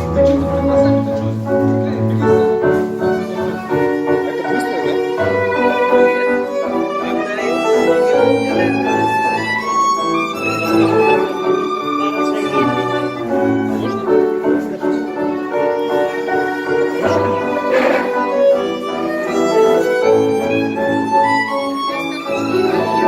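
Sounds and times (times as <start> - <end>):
piano: 0.0 - 23.0
tango band playing: 0.0 - 23.0
violin melody: 0.0 - 23.0.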